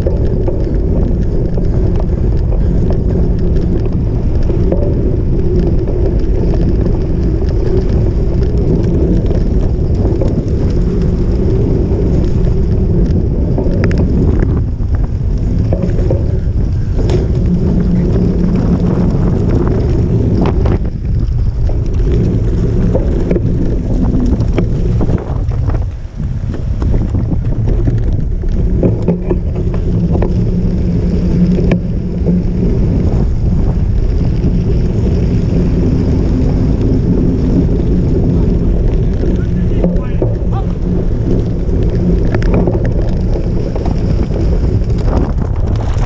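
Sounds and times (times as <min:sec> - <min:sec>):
bike knocks and rattles: 0:00.0 - 0:46.0
bike rumbling over rough ground: 0:00.0 - 0:46.0
wind buffeting microphone: 0:00.0 - 0:46.0.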